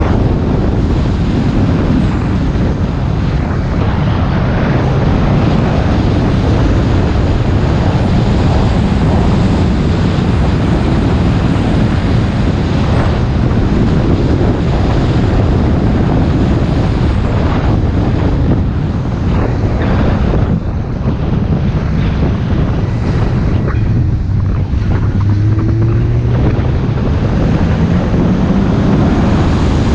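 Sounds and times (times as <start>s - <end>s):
motorcycle running: 0.0s - 29.9s
wind rushing over microphone: 0.0s - 29.9s.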